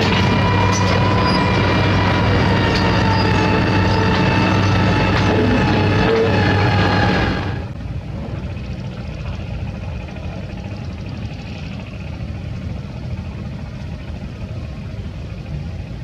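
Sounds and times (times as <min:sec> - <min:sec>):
diesel engine running low: 0:00.0 - 0:16.0.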